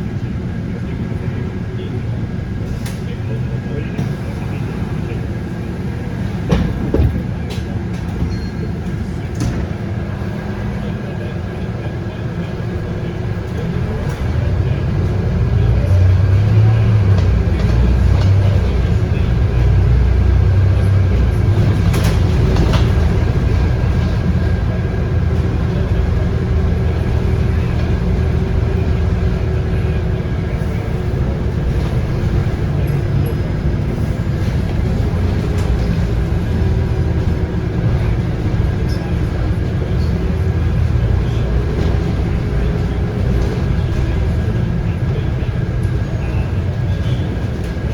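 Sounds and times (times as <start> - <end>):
bus diesel engine rumble: 0.0 - 47.9.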